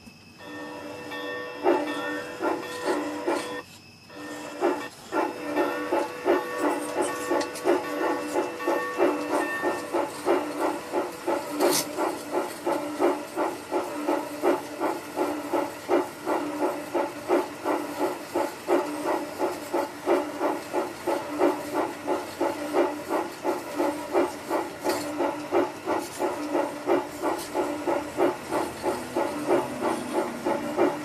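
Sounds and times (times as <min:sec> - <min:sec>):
model steam locomotive chuffing: 0:00.0 - 0:31.0.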